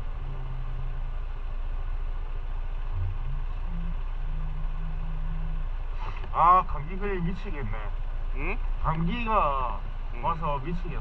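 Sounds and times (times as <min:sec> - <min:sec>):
motorcycle engine running: 0:00.0 - 0:11.0
road noise hiss: 0:00.0 - 0:11.0.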